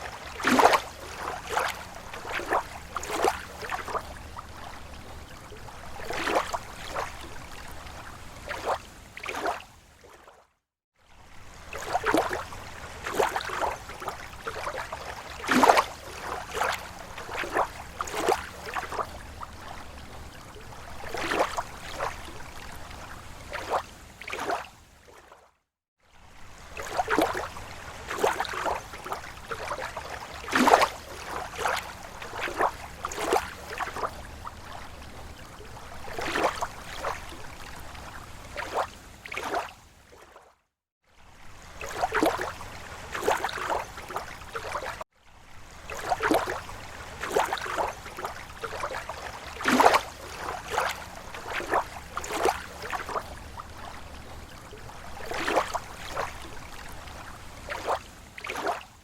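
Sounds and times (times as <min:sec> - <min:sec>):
small waves lapping at shore: 0:00.0 - 0:59.0.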